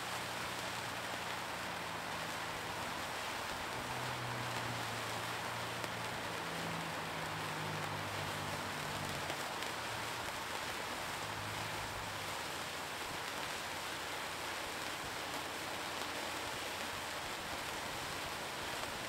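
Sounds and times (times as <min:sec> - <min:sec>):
sparklers hissing: 0:00.0 - 0:19.0.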